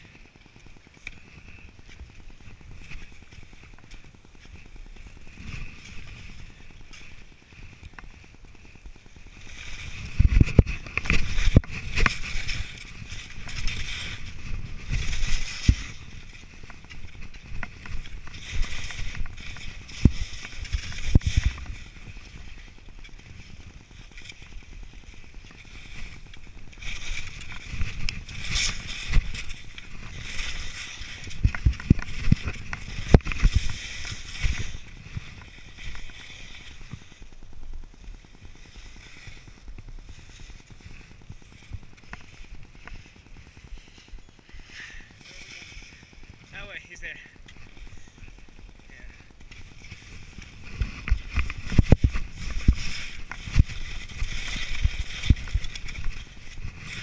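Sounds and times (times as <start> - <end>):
skis scraping over snow: 0.0 - 57.0.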